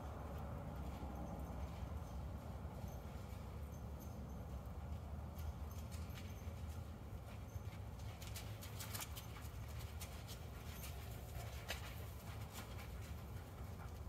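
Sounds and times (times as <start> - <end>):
distant hoofbeats on sand: 0.0 - 14.0.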